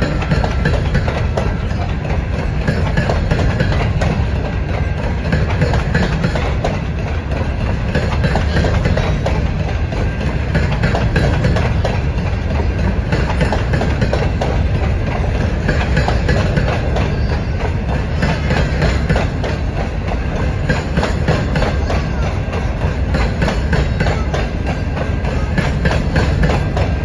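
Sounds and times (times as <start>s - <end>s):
steel wheels rumbling on rail: 0.0s - 27.0s
wheels clacking: 0.0s - 27.0s.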